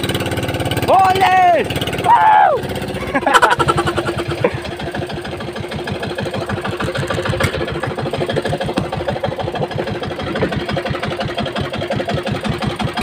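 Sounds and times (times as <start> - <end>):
small boat engine running: 0.0 - 13.0.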